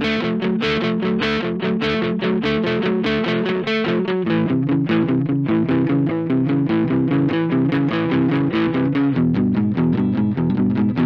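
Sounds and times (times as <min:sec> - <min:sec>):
electric guitar picking chords: 0:00.0 - 0:11.0.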